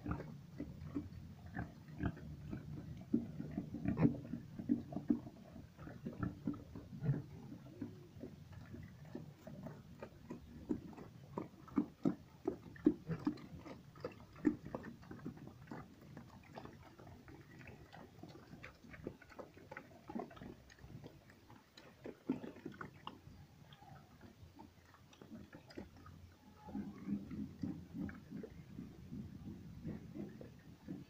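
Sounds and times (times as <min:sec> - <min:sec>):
pigs chewing and chomping: 0:00.0 - 0:31.0.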